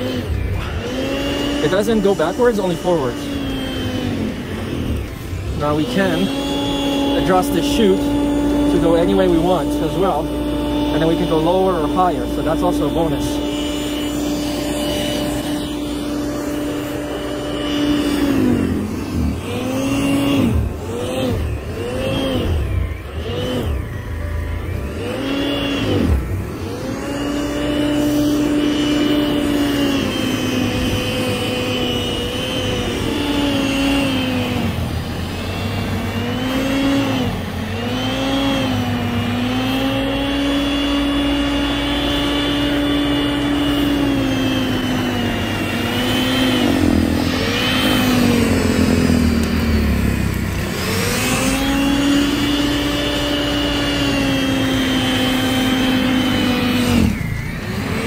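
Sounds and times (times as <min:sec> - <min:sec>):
electric snow blower motor whine: 0:00.0 - 0:58.0.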